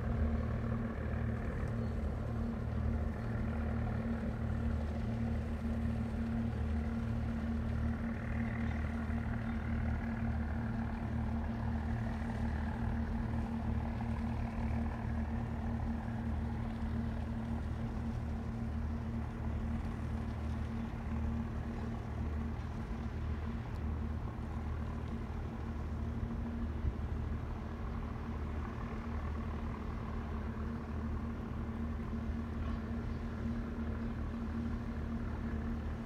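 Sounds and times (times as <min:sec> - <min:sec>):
boat engine running: 0:00.0 - 0:36.0.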